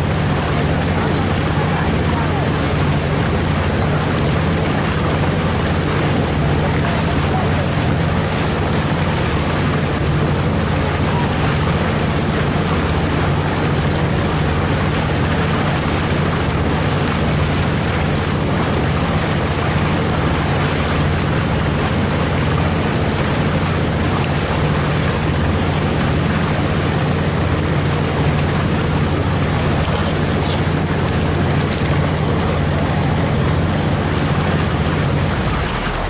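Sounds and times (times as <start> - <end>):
motorboat engine drone: 0.0 - 36.0
water rushing along hull: 0.0 - 36.0.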